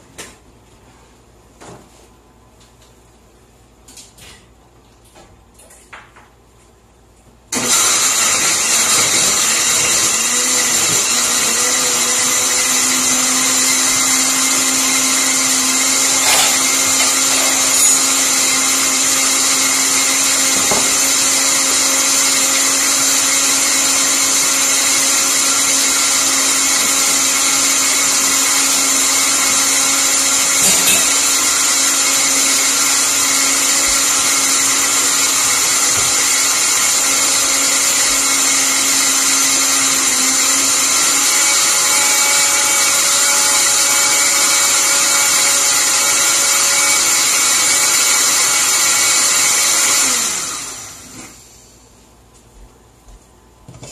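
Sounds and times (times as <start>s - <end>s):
electric blender running: 7.6s - 51.8s.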